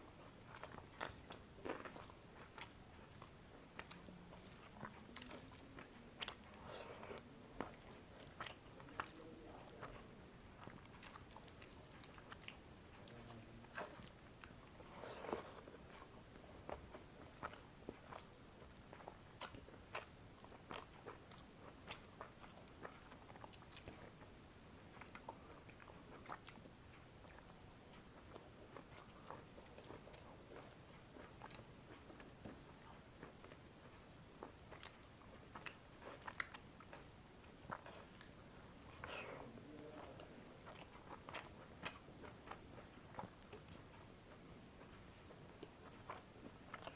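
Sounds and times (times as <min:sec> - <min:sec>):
chewing and biting food: 0:00.1 - 0:46.9.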